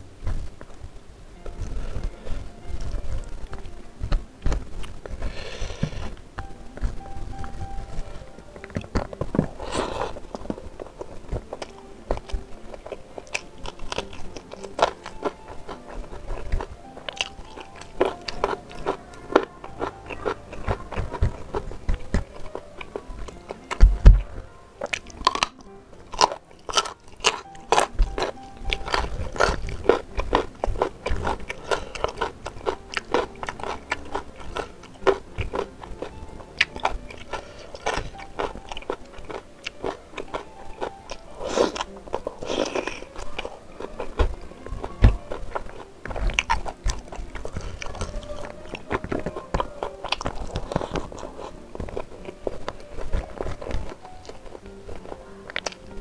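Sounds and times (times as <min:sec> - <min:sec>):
chewing food: 0:01.4 - 0:56.0
sharp crunching: 0:01.4 - 0:56.0.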